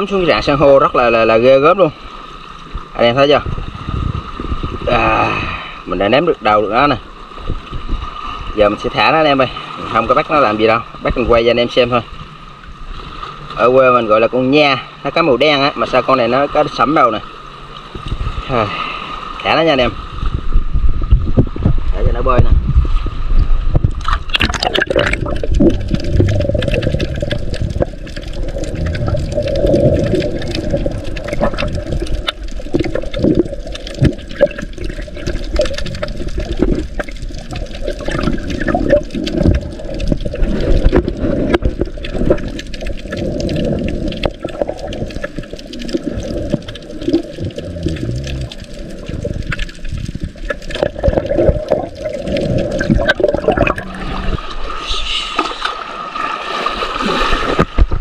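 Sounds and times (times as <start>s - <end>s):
muffled underwater rush of water: 0.0s - 58.0s
small underwater clicks and crackles: 0.0s - 58.0s.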